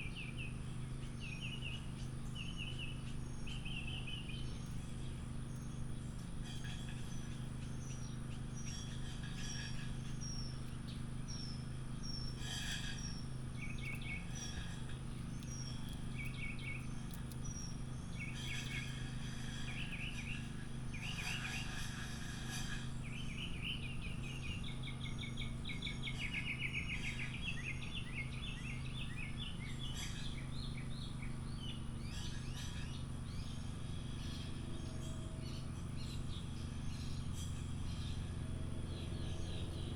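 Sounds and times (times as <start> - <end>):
small birds chirping: 0.0 - 39.9
steady low hum: 0.0 - 39.9.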